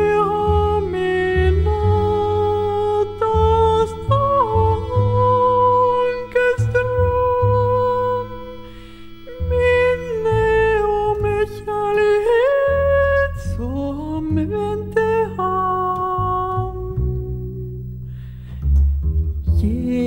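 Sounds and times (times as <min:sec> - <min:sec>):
woman singing wordless melody: 0:00.0 - 0:17.7, 0:19.4 - 0:20.0
double bass low notes: 0:00.0 - 0:20.0.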